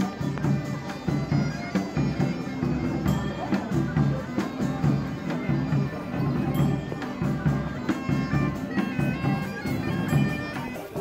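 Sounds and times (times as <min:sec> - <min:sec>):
bagpipes playing folk tune: 0:00.0 - 0:11.0.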